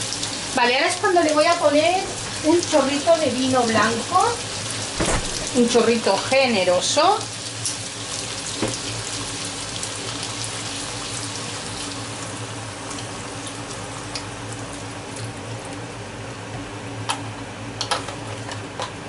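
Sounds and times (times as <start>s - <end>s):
frying pan sizzling: 0.0s - 19.0s.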